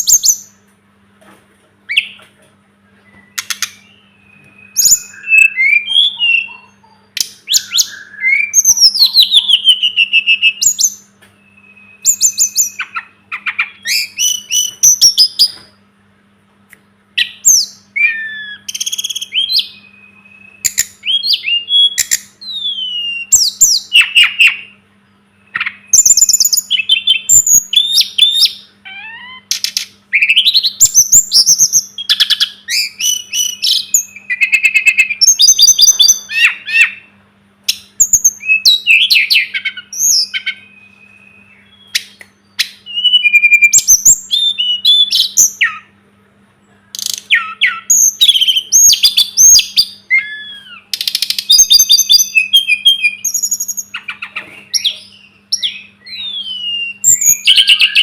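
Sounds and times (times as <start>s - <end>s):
songbird singing: 0.0s - 0.7s, 1.8s - 58.0s
faint low hum: 0.0s - 58.0s.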